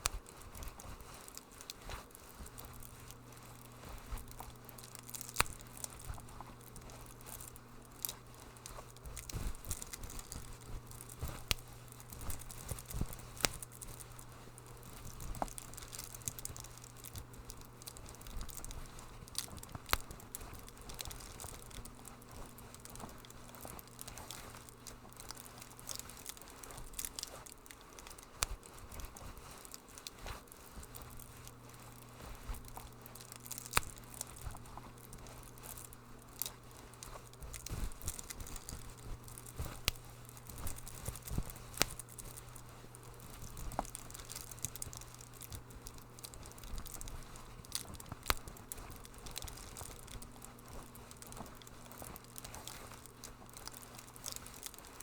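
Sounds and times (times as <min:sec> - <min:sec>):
low steady hum: 0:00.0 - 0:55.0
wood fire crackling and popping: 0:00.0 - 0:55.0.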